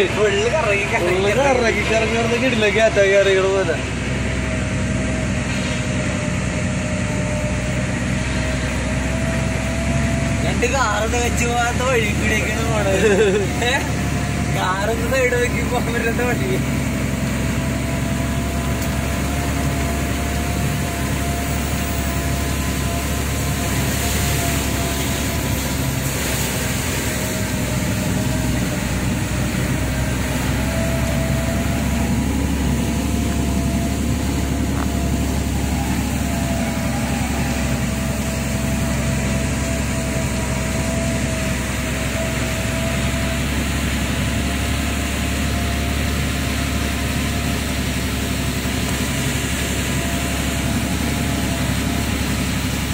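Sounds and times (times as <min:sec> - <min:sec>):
lorry engine humming: 0:00.0 - 0:52.9
thin steady whine: 0:00.0 - 0:52.9.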